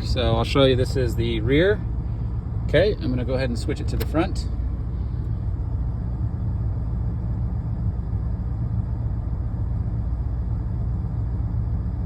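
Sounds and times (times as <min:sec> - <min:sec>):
air-conditioning blower: 0:00.0 - 0:12.0
engine idling: 0:00.0 - 0:12.0.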